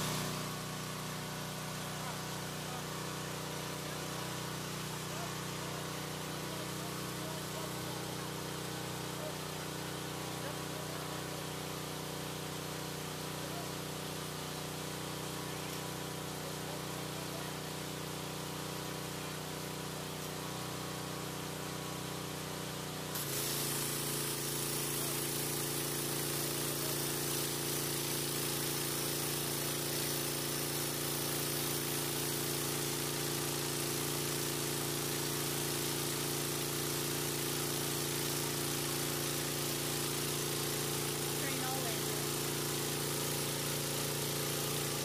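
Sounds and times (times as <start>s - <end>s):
pressure washer engine running: 0.0s - 45.0s
water jet hissing against siding: 0.0s - 45.0s.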